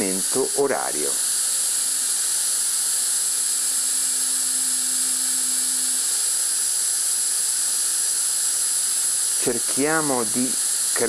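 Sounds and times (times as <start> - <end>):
air injector hissing: 0.0 - 11.0
micromotor spinning: 0.0 - 11.0.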